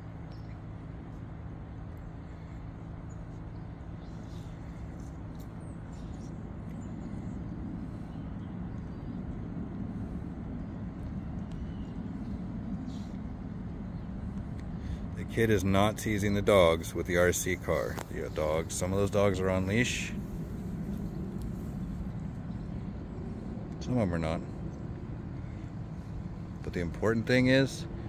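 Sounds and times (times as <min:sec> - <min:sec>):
faint steady hum: 0:00.0 - 0:28.0
low outdoor rumble: 0:00.0 - 0:28.0.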